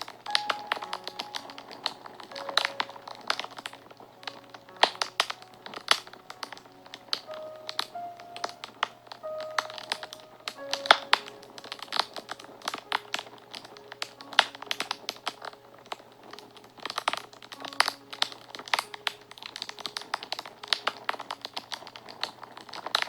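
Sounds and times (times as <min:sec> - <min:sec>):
soft background music: 0:00.0 - 0:23.0
wood fire crackling and popping: 0:00.0 - 0:23.0.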